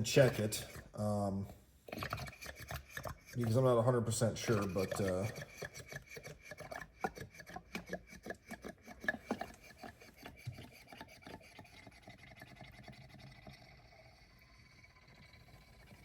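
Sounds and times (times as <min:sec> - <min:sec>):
oil glugging through a funnel: 0:00.0 - 0:16.0.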